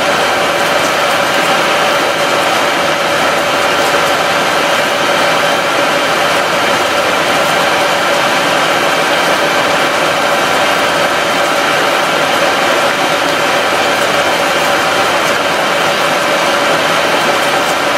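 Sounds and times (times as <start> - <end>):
multi-tone hum: 0.0 - 17.9
water boiling with rushing noise: 0.0 - 17.9.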